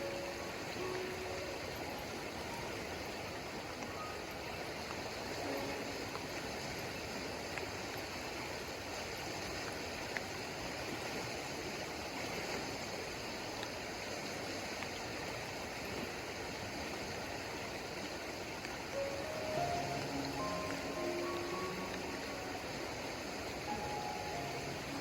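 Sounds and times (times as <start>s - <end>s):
rain: 0.0s - 25.0s
stream water running: 0.0s - 25.0s.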